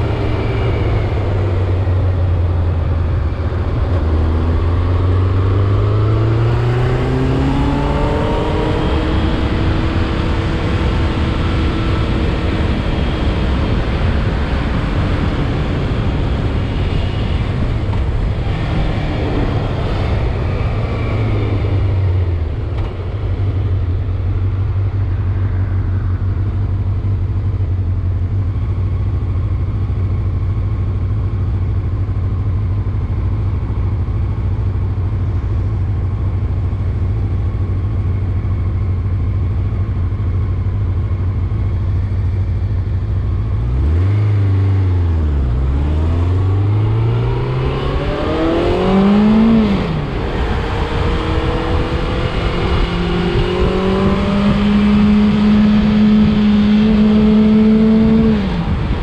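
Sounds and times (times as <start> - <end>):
constant rushing noise: 0.0 - 59.0
motorcycle engine accelerating: 0.0 - 59.0.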